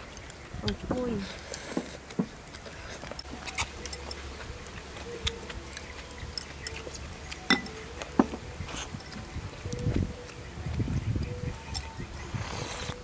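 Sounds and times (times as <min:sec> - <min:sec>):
quiet chewing: 0:00.0 - 0:13.0.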